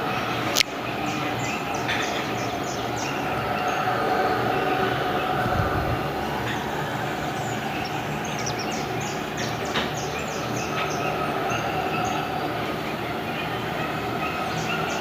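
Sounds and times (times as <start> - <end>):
droning hum with held tones: 0.0 - 15.0.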